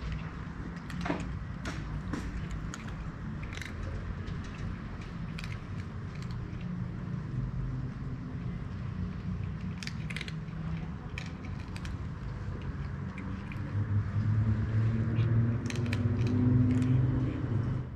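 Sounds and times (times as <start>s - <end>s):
cats crunching dry food: 0.0s - 17.4s
vehicle engine humming: 0.0s - 17.9s.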